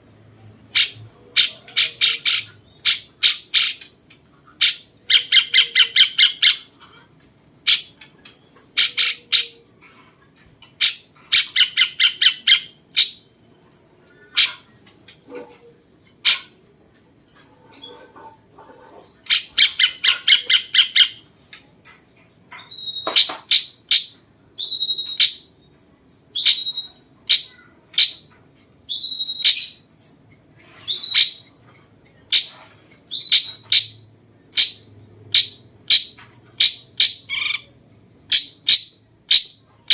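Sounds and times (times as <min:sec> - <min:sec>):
high insect trill: 0:00.0 - 0:39.9
songbird chattering song: 0:00.4 - 0:39.9.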